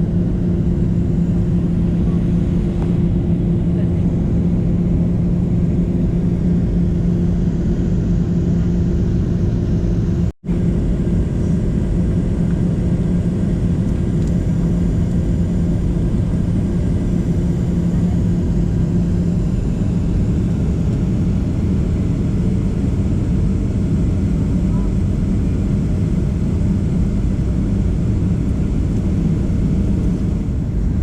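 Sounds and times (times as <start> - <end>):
aircraft engine rumble and airflow: 0.0 - 31.0
constant low hum: 0.0 - 31.0.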